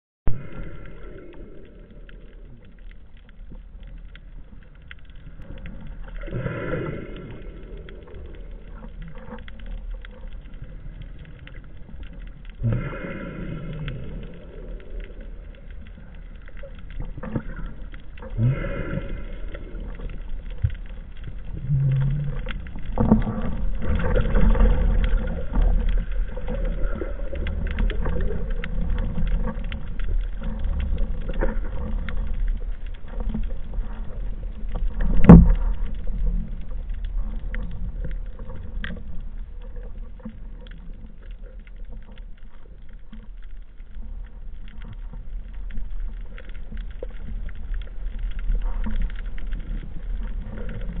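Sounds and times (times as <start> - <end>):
faint underwater crackles: 0.3 - 51.0
underwater water rumble: 0.3 - 51.0.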